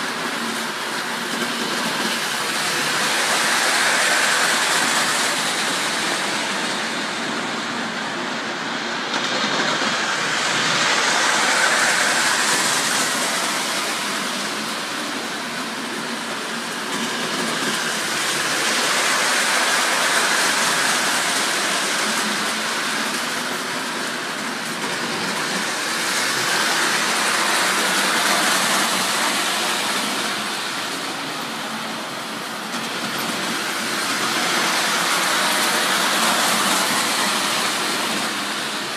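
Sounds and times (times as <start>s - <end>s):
model trains rumbling on metal track: 0.0s - 38.9s.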